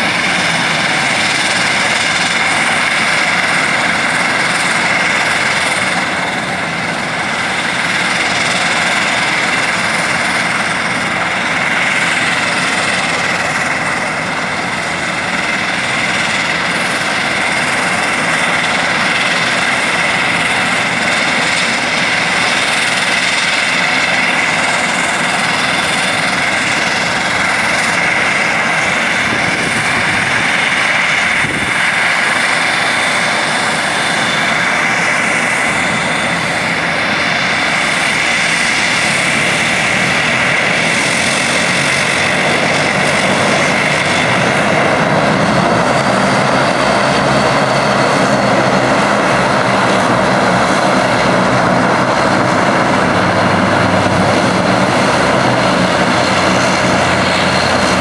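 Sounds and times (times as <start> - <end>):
high engine whine: 0.0 - 58.0
turboprop engines roaring: 0.0 - 58.0.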